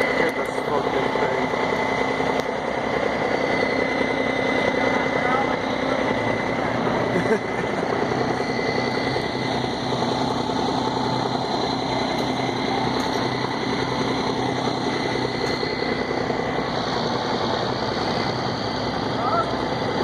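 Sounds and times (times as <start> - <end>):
faint high whine: 0.0 - 20.0
truck diesel engine rumbling: 0.0 - 20.0.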